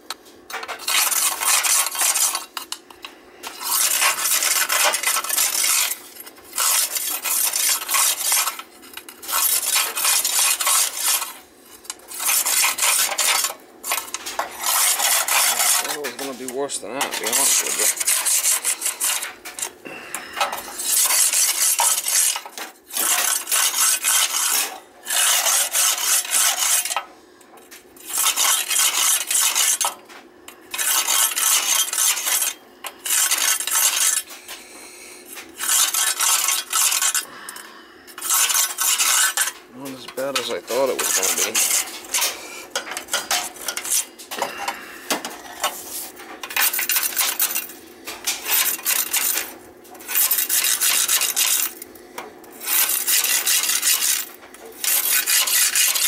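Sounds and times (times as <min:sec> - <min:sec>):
flue brush scraping soot: 0:00.6 - 0:56.0.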